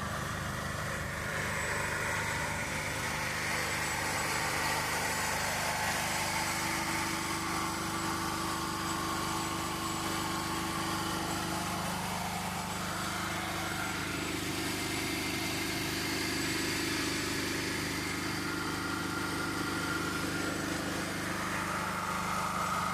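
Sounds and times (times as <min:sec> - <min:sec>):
generator engine running: 0:00.0 - 0:22.9.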